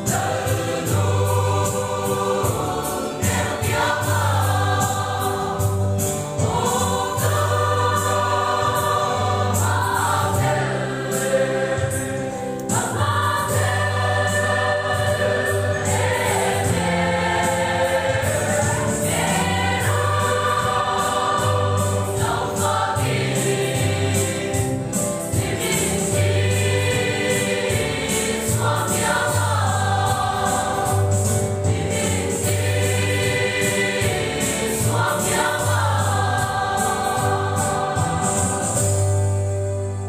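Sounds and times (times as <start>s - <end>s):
mixed choir singing a hymn: 0.0s - 39.8s.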